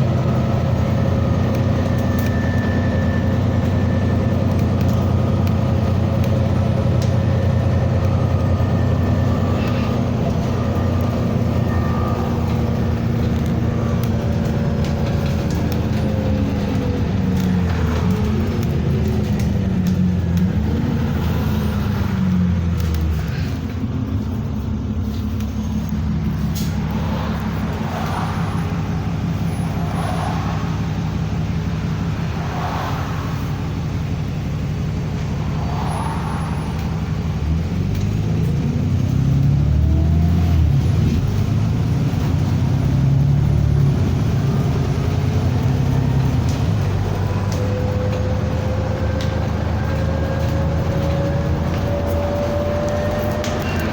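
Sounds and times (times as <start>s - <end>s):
loud vehicle engine running: 0.0s - 53.9s.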